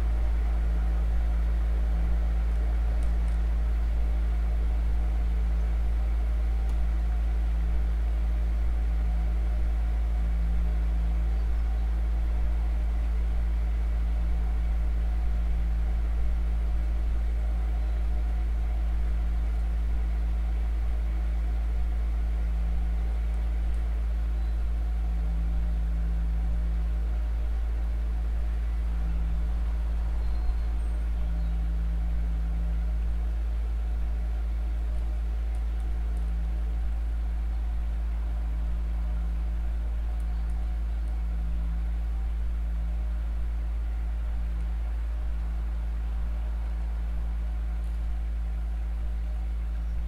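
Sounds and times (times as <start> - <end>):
deep rumbling drone: 0.0 - 50.0.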